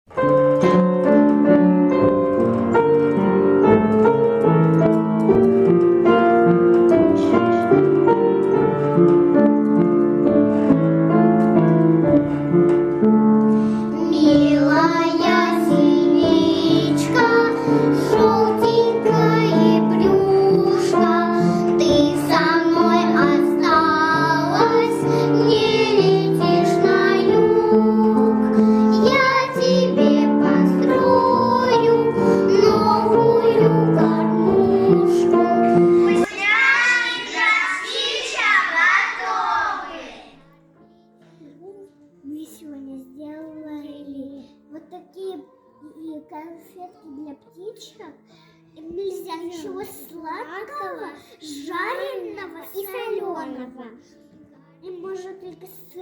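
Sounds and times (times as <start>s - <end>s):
piano accompaniment: 0.1s - 48.2s.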